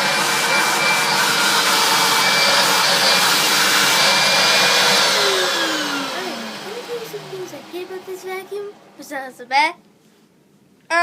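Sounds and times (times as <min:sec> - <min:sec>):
vacuum cleaner running: 0:00.0 - 0:09.2.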